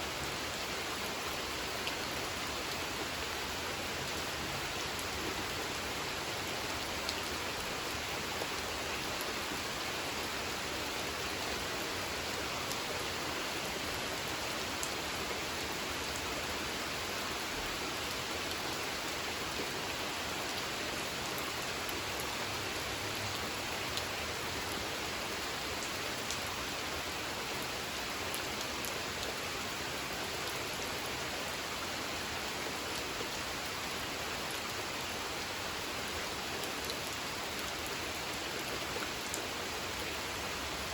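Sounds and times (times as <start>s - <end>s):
rain falling on a pond: 0.0s - 40.9s.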